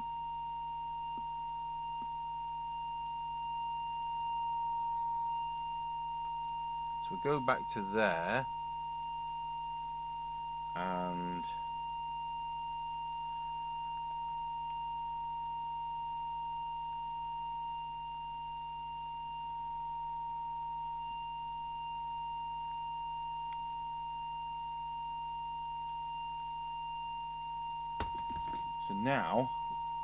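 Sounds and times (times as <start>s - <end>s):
steady oscillator test tone: 0.0s - 30.0s.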